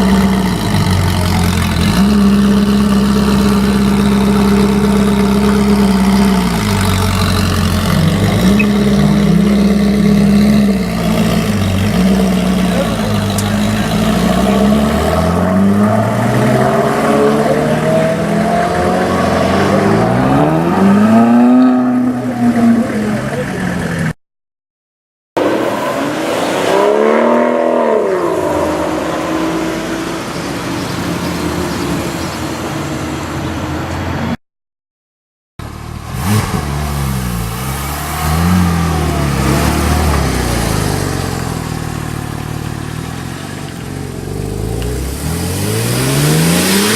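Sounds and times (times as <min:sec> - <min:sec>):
car engines revving: 0:00.0 - 0:24.2, 0:25.4 - 0:34.4, 0:35.6 - 0:46.9.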